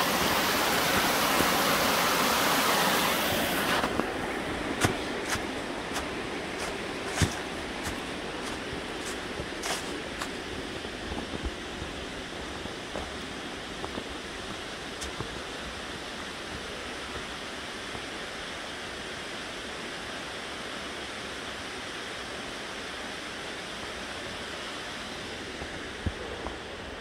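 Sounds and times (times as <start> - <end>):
creek and waterfall rushing: 0.0 - 26.1.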